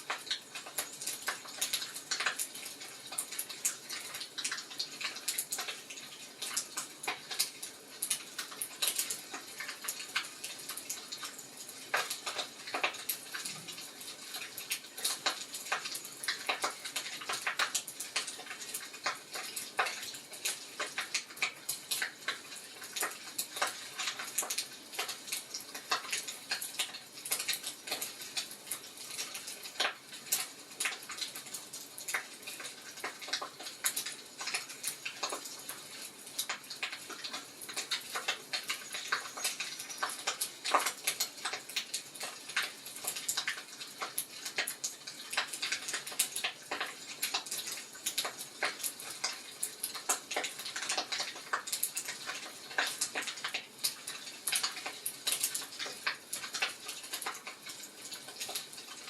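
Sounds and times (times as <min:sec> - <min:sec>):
wood fire snaps and pops: 0:00.0 - 0:59.0.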